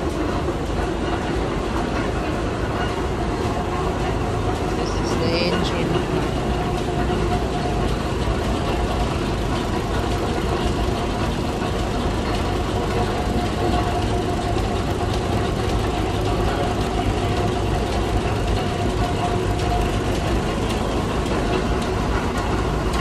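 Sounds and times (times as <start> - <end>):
steam engine running: 0.0 - 23.0.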